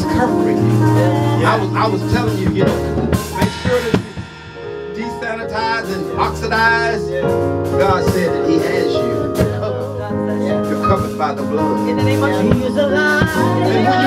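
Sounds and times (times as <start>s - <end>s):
drum kit beating: 0.0s - 14.0s
electronic keyboard chords: 0.0s - 14.0s.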